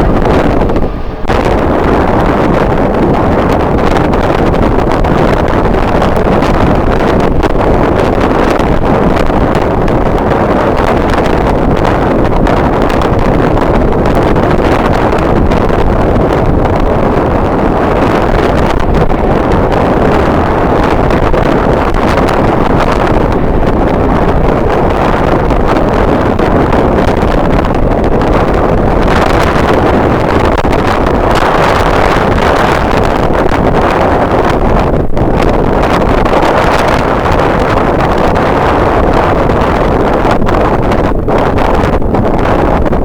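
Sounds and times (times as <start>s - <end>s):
strong wind buffeting microphone: 0.0s - 43.0s.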